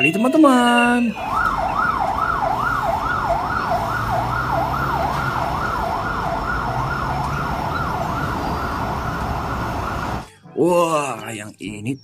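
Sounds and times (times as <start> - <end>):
fire engine siren wailing: 0.6 - 10.3.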